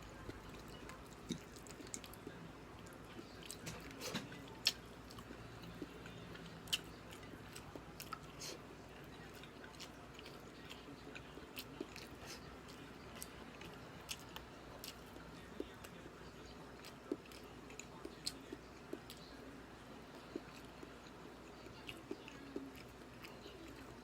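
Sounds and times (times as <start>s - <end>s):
chewing and biting: 0.2s - 16.0s, 16.8s - 19.4s, 20.0s - 24.0s.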